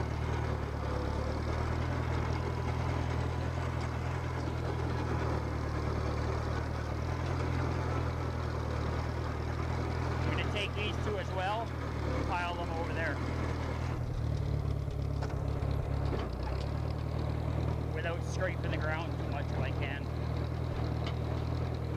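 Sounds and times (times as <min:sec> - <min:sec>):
bulldozer engine running: 0:00.0 - 0:21.9.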